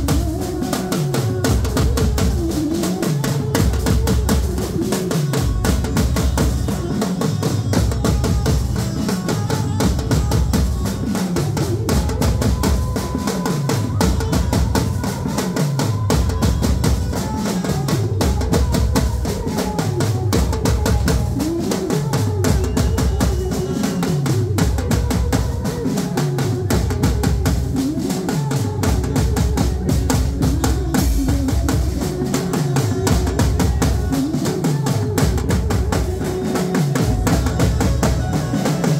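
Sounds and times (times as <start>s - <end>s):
drums and cymbals: 0.0s - 38.9s.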